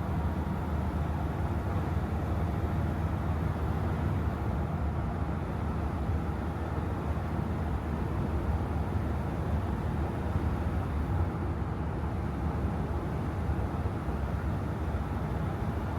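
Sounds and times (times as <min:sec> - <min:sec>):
van engine and road rumble: 0:00.0 - 0:15.9.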